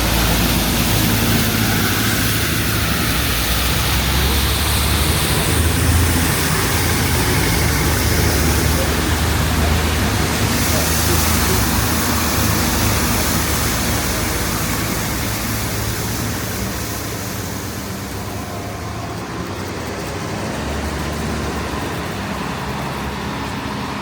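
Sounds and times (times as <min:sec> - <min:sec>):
city street traffic roar: 0:00.0 - 0:24.0.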